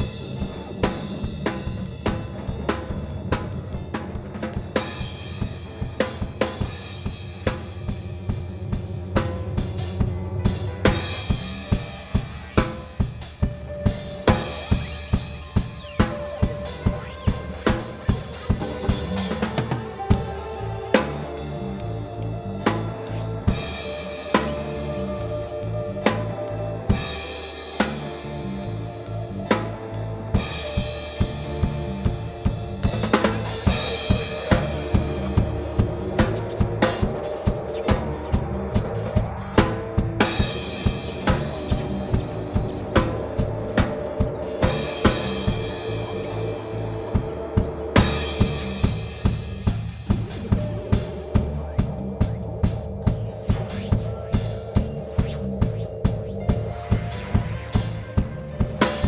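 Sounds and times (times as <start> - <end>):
bass notes: 0.0 - 59.0
drum kit playing beat: 0.0 - 59.0
keyboard notes: 3.8 - 59.0.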